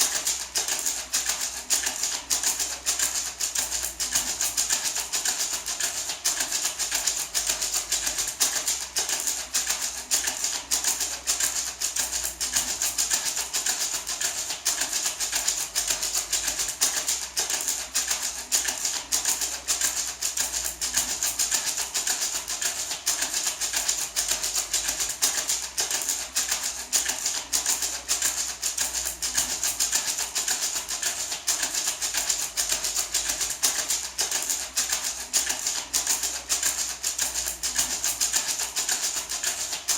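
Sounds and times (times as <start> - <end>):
maraca rattling: 0.0 - 39.9.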